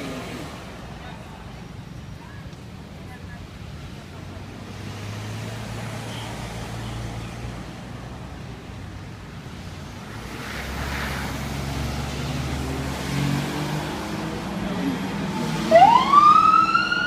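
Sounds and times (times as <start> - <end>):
tyre and road noise: 0.0 - 17.0.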